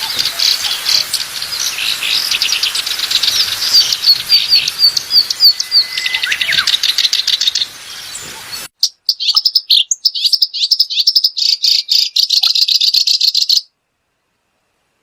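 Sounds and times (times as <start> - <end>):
bird warbling song: 0.0 - 13.7
songbirds trilling and chirping: 0.0 - 13.7.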